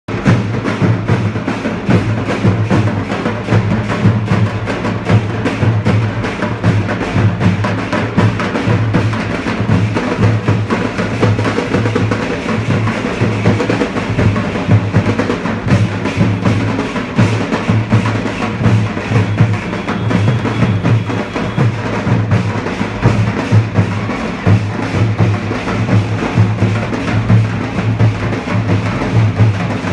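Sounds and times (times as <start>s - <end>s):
drum-heavy music with bass: 0.1s - 29.9s.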